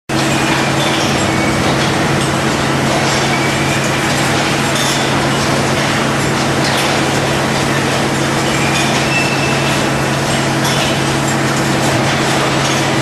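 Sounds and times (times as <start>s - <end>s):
machinery low hum: 0.1s - 13.0s.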